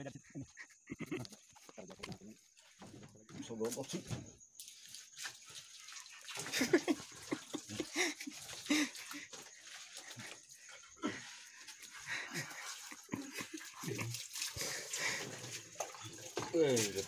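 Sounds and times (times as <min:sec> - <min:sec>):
water splashing: 0:01.8 - 0:17.0.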